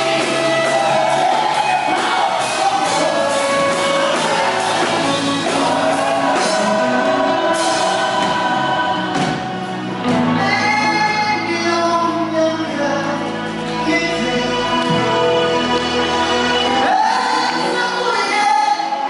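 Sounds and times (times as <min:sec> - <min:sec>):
group singing gospel: 0:00.0 - 0:10.8, 0:13.8 - 0:19.0
band accompaniment: 0:00.0 - 0:19.0.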